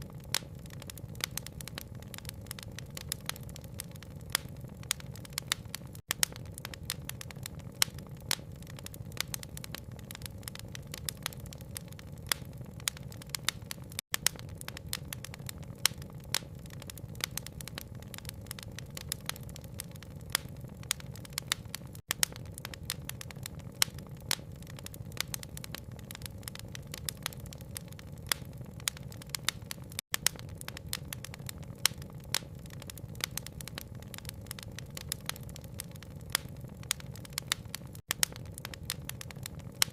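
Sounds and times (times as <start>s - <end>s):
fire crackling and popping: 0.0s - 39.9s
rain patter: 0.0s - 39.9s.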